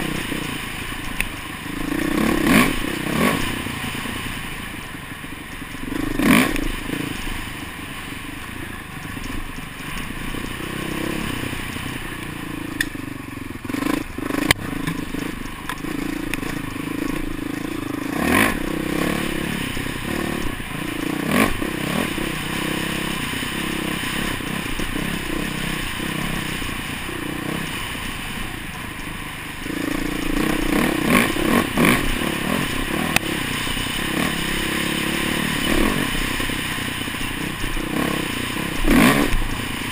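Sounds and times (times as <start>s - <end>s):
dirt bike engine revving: 0.0s - 4.8s, 5.7s - 8.0s, 9.4s - 28.6s, 29.4s - 39.9s.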